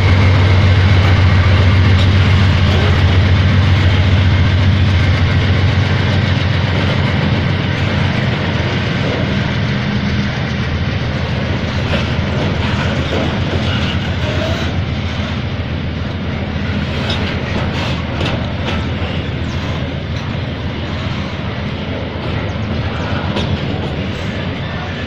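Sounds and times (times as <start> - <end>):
freight wheels rumbling on rails: 0.0 - 25.0.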